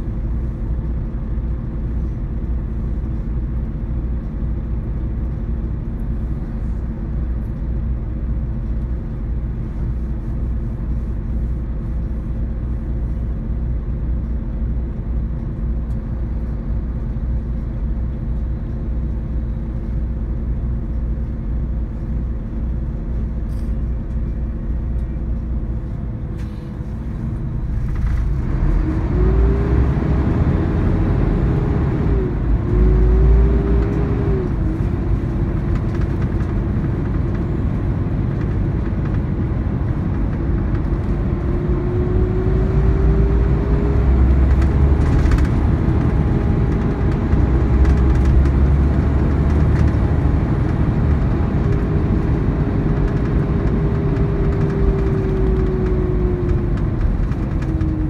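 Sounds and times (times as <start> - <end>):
coach engine and road rumble: 0.0 - 58.0.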